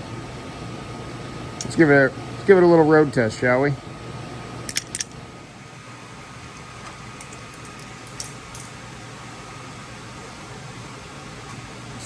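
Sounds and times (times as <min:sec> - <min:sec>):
fan-like hum: 0:00.0 - 0:12.0.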